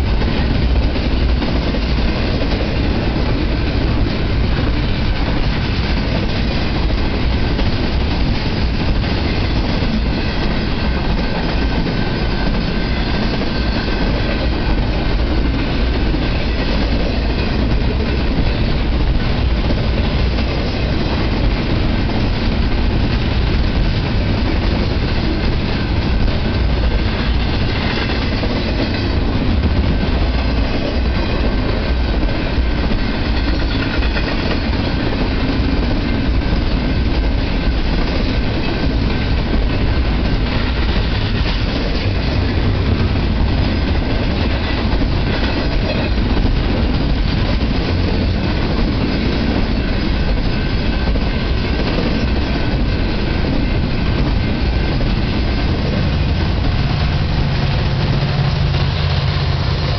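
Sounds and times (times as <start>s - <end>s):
train wheels running on rails: 0.0s - 59.9s.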